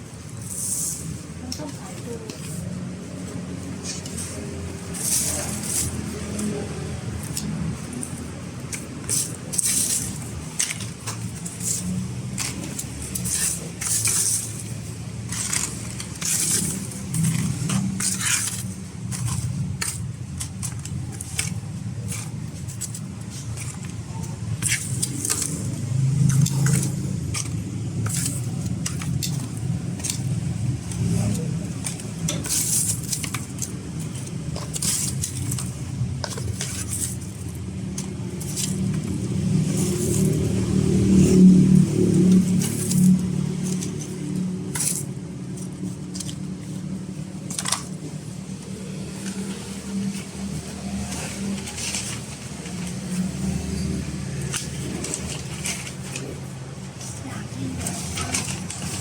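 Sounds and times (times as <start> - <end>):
road traffic rumble: 0.0 - 59.0
metal utensils and pans clinking: 0.1 - 59.0.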